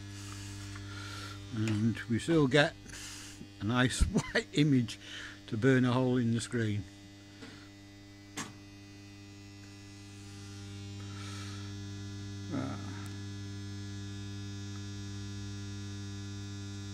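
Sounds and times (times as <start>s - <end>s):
arc lamp humming: 0.0s - 16.9s.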